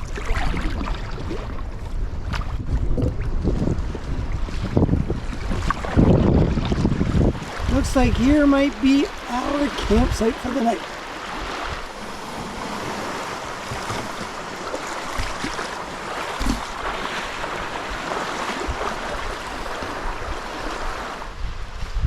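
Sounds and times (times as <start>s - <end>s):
water lapping around canoe: 0.0s - 22.0s
wind on microphone: 0.0s - 22.0s.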